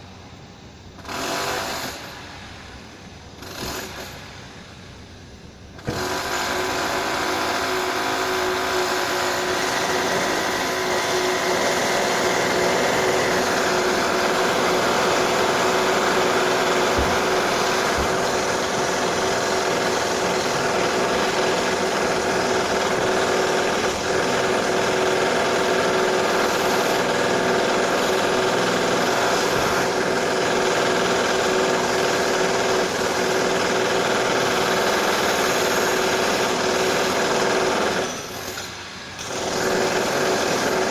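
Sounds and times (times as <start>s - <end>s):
power drill whining: 5.8s - 40.9s.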